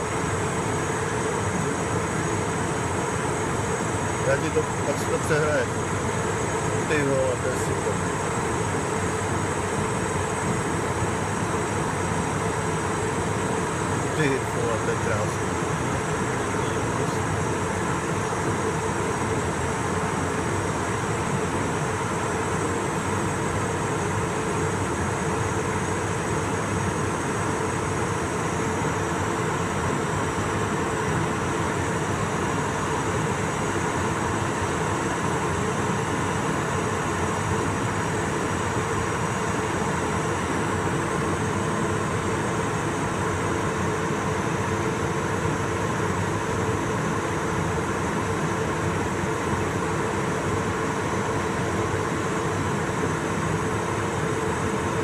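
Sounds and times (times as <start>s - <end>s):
air conditioning: 0.0s - 55.0s
faint steady hums: 0.0s - 55.0s.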